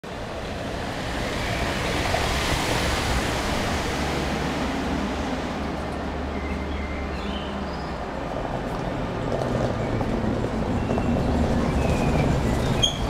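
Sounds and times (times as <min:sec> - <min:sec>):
van passing on cobblestones: 0:00.0 - 0:13.0.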